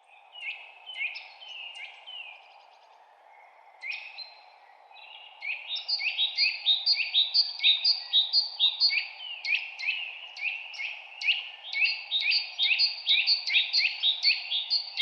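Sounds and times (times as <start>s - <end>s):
birds singing whistled notes: 0.0s - 15.0s
low outdoor background hiss: 0.0s - 15.0s.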